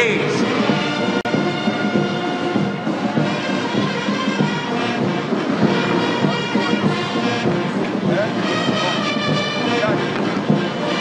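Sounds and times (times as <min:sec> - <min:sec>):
military brass band playing: 0:00.0 - 0:11.0.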